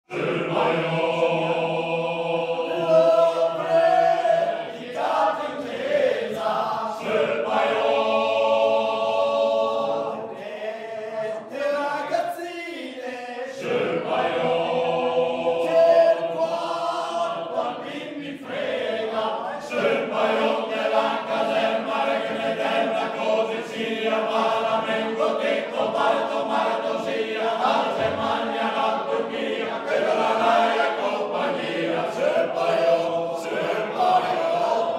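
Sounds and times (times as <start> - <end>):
men's choir singing a cappella: 0.1 - 34.9.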